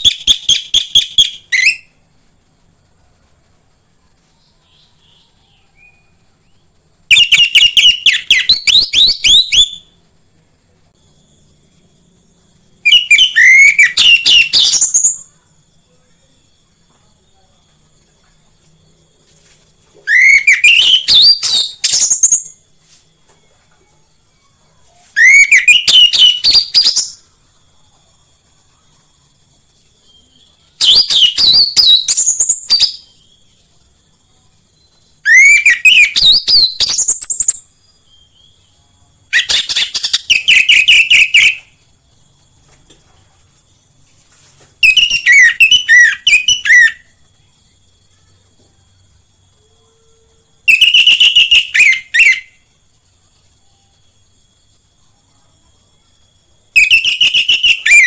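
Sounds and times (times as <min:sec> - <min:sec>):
thrush singing whistles and warble: 0:00.0 - 0:02.0, 0:04.6 - 0:10.0, 0:11.0 - 0:17.6, 0:20.0 - 0:33.7, 0:34.5 - 0:43.0, 0:44.8 - 0:55.2, 0:56.0 - 0:58.0.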